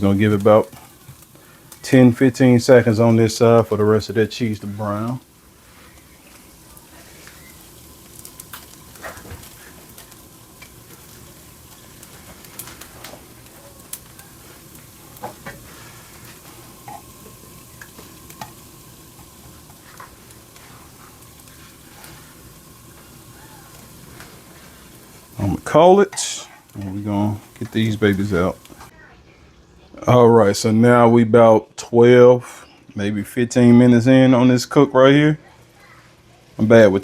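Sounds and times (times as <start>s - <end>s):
cheese and bacon sizzling in pan: 0.0s - 37.0s.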